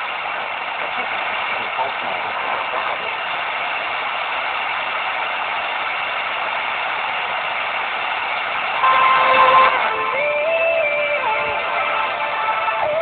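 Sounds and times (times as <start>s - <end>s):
radio static hiss: 0.0s - 13.0s
steady radio tone: 0.0s - 13.0s.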